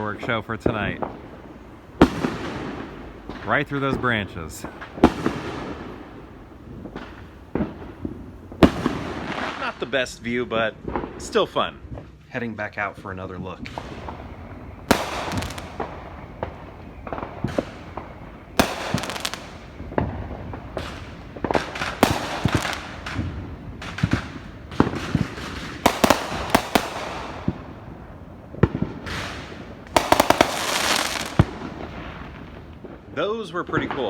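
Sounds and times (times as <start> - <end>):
fireworks bangs with crackling: 0.0 - 34.0.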